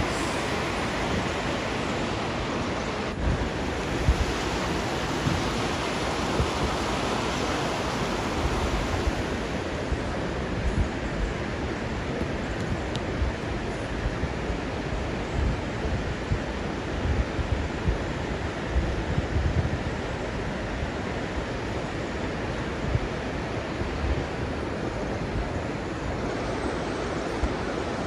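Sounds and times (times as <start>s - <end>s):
river water rushing: 0.0s - 19.2s, 19.8s - 28.0s
wind gusting on microphone: 0.0s - 28.0s.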